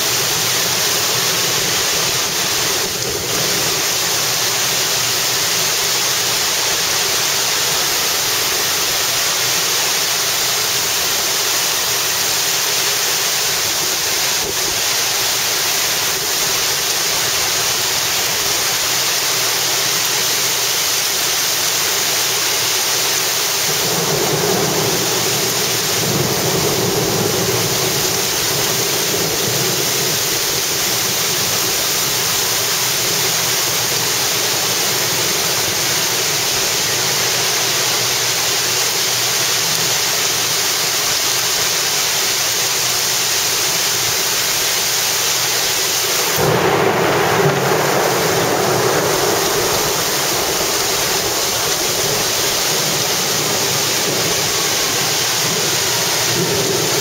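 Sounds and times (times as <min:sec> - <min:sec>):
heavy rain in strong wind: 0:00.0 - 0:57.0.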